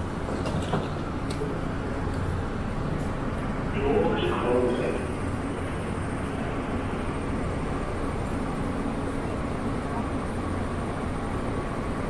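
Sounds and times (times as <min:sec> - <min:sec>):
people-mover car rumble and hum: 0:00.0 - 0:12.0.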